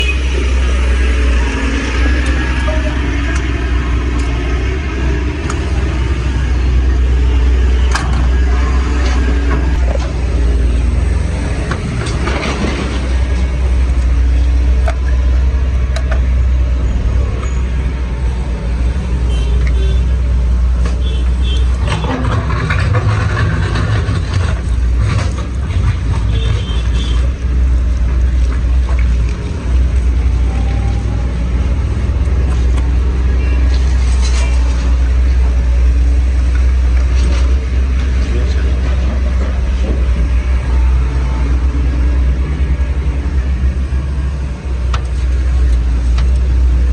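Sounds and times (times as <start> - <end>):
excavator engine rumbling: 0.0 - 46.9.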